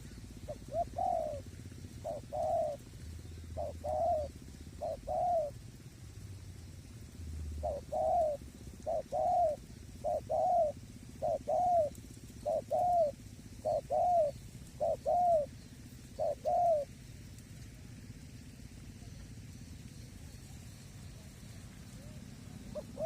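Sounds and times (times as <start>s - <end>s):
dove cooing: 0.0s - 5.9s, 6.9s - 17.7s, 20.0s - 23.0s.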